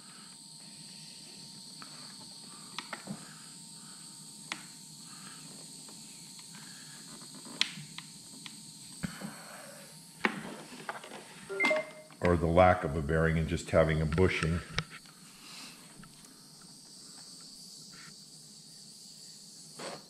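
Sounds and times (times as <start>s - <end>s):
propane torch hissing: 0.0s - 11.5s, 12.2s - 20.0s.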